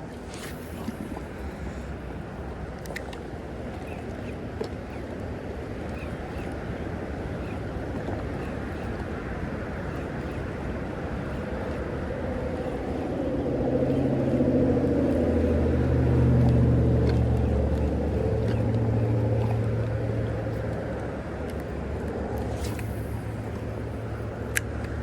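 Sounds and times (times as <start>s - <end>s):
water noise: 0.0s - 25.0s.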